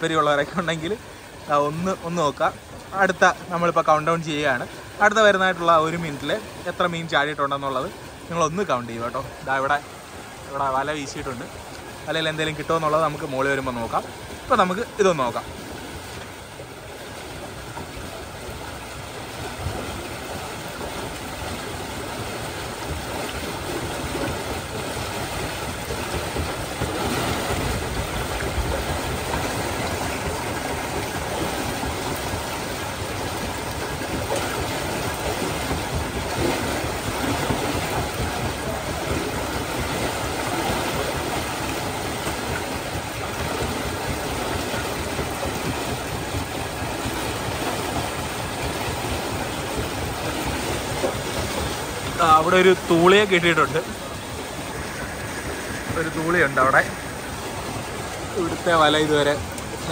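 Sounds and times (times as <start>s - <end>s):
water gushing through a channel: 0.0s - 59.9s.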